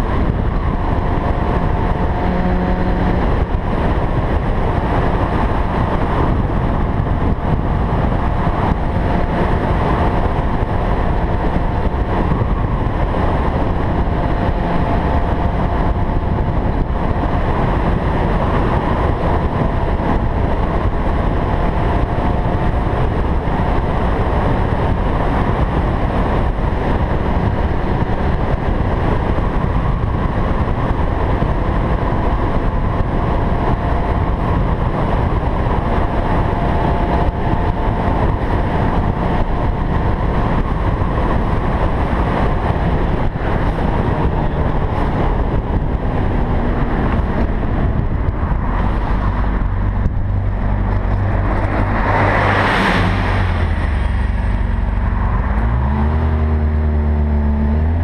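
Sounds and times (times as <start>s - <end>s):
motorcycle engine cruising: 0.0s - 58.0s
wind and road rush: 0.0s - 58.0s.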